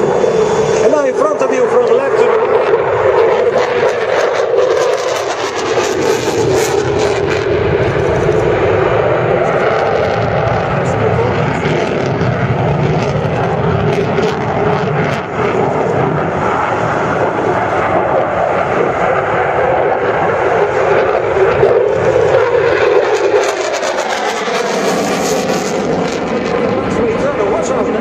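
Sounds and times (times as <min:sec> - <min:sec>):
fighter jet flying past: 0:00.0 - 0:28.0.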